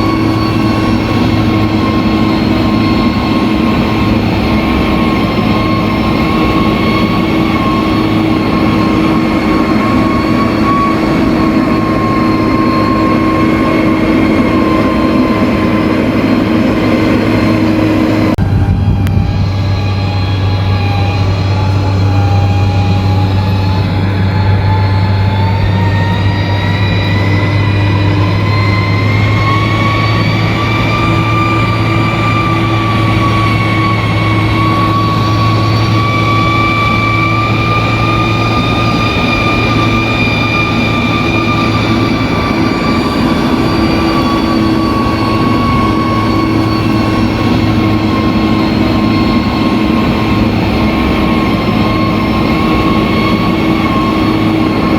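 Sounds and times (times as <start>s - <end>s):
bulldozer diesel engine running: 0.0s - 54.9s
high whine rising in pitch: 0.0s - 54.9s.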